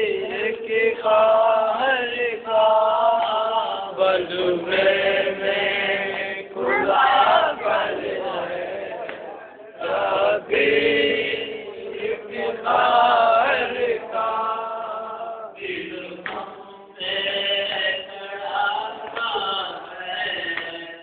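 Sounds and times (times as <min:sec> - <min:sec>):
men chanting a lament: 0:00.0 - 0:21.0.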